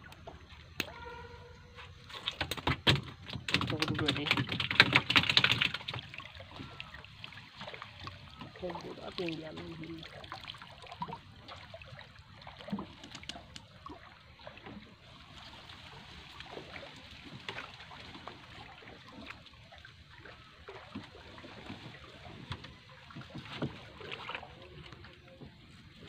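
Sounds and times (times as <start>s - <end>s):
water splashing and dripping: 0.0s - 26.0s.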